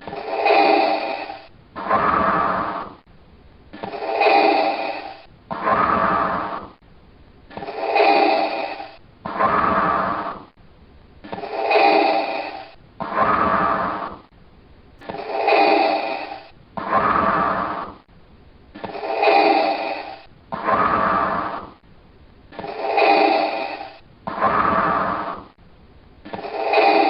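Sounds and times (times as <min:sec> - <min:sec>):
hissing mechanical respirator breathing: 0:00.0 - 0:03.0, 0:03.8 - 0:06.8, 0:07.5 - 0:10.6, 0:11.3 - 0:14.3, 0:15.0 - 0:18.0, 0:18.8 - 0:21.8, 0:22.6 - 0:25.5, 0:26.3 - 0:27.0.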